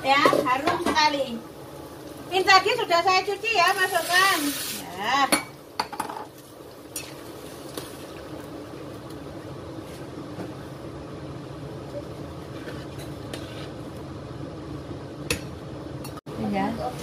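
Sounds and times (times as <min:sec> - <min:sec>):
broth boiling in a wok: 0:00.0 - 0:17.0.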